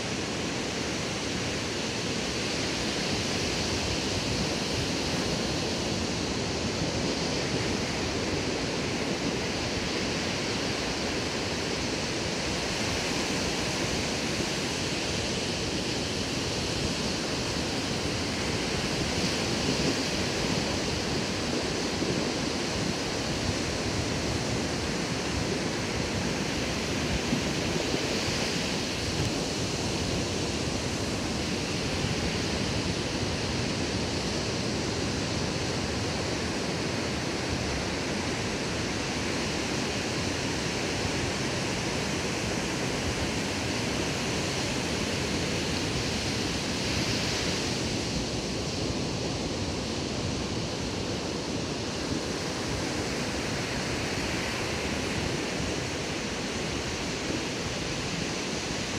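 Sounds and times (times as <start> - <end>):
ocean surf breaking on beach: 0.0 - 58.9.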